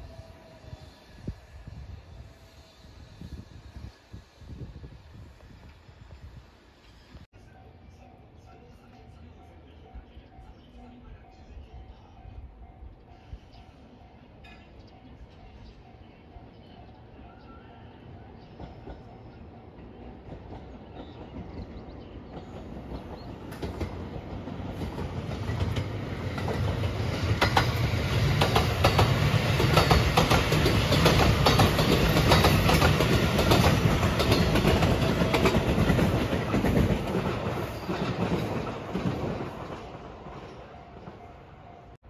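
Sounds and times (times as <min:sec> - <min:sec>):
electric train passing at speed: 0:00.0 - 0:42.0.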